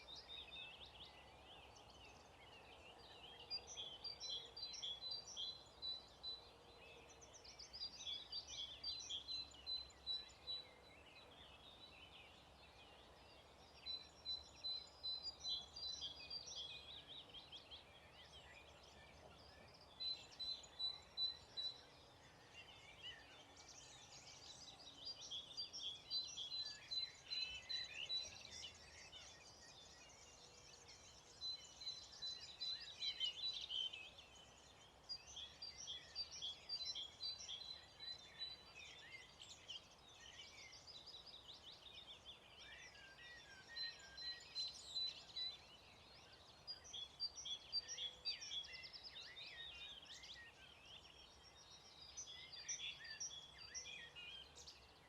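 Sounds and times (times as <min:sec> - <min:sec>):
songbirds warbling and twittering: 0:00.0 - 0:55.0.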